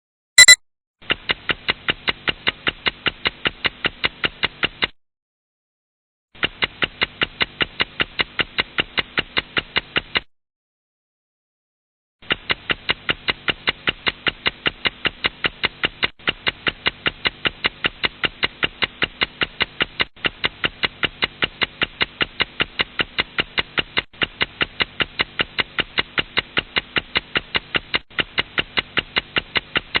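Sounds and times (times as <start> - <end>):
clock ticking rapidly: 0.4 - 5.0, 6.4 - 10.3, 12.2 - 30.0.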